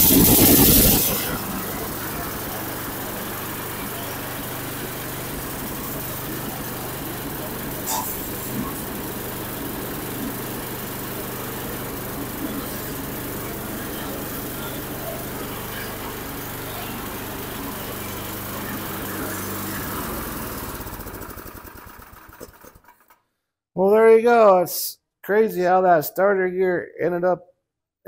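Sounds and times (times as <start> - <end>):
snowblower engine running: 0.0 - 23.2.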